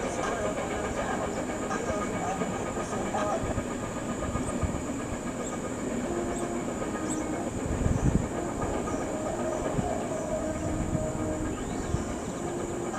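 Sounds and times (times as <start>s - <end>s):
freight train rumbling past: 0.0s - 12.9s.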